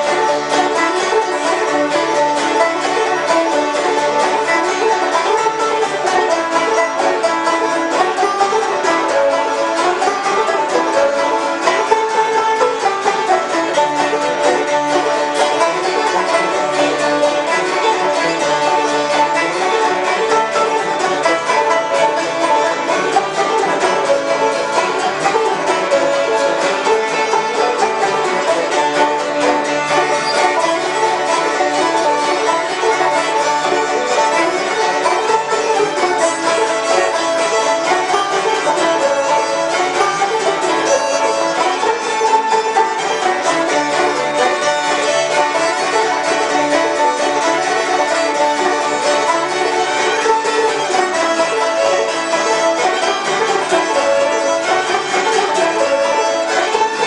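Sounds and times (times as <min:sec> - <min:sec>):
string band playing: 0:00.0 - 0:57.0.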